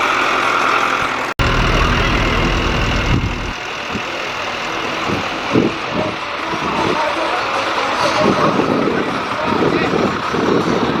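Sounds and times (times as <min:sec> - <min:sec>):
tractor engine rumbling: 0:00.1 - 0:11.0.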